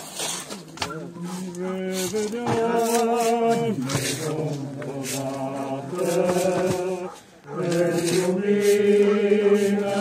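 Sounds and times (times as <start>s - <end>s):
congregation singing a hymn: 0.8s - 10.0s.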